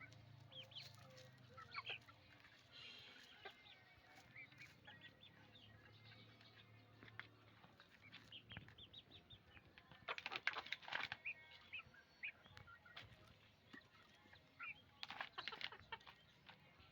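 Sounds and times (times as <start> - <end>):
faint chickens clucking: 0.0 - 16.9.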